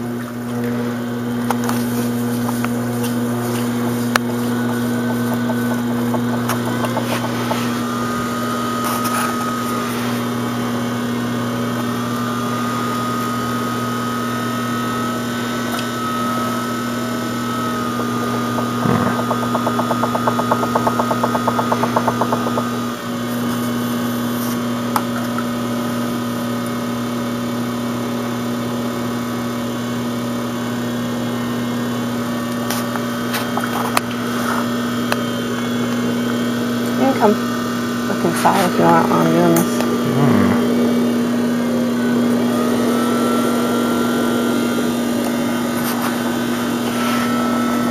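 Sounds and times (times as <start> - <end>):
pottery wheel motor humming: 0.0 - 47.9.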